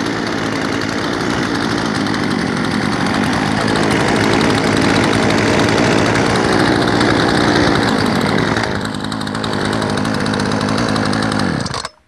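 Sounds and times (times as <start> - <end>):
chainsaws idling: 0.0 - 12.0.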